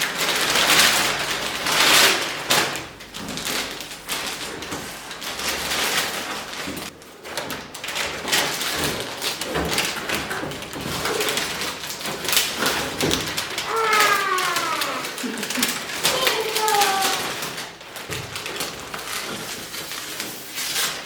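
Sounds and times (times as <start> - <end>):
packaging rustling: 0.0 - 21.0.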